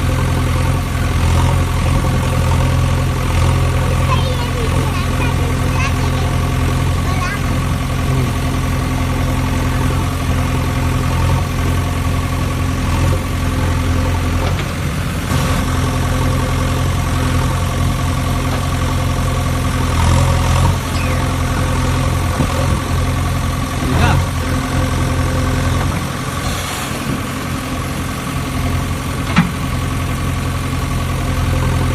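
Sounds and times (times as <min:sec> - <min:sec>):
heavy vehicle engine idling: 0:00.0 - 0:31.9.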